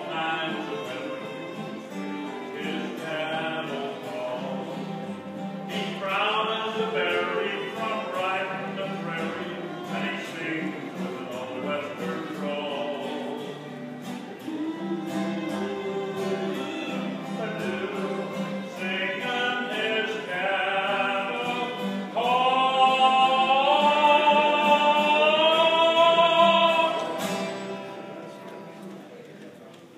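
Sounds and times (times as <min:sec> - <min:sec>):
man singing: 0:00.0 - 0:27.8
fiddle: 0:00.0 - 0:29.0
acoustic guitar strumming: 0:00.0 - 0:29.2.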